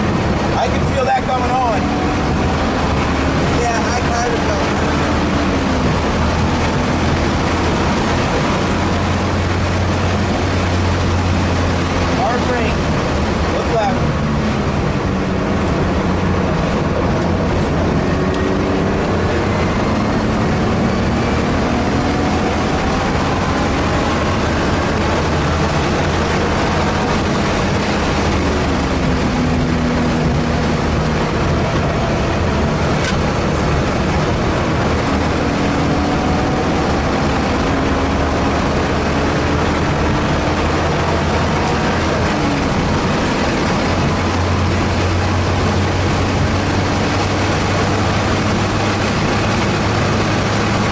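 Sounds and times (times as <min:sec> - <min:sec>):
car engine accelerating: 0:00.0 - 0:50.9
road and wind noise: 0:00.0 - 0:50.9.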